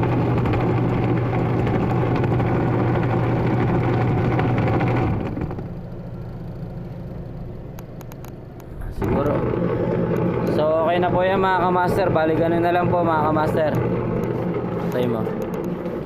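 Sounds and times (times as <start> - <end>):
loud rattling grind: 0.0 - 6.0, 8.7 - 16.0
washing machine motor hum: 0.0 - 16.0.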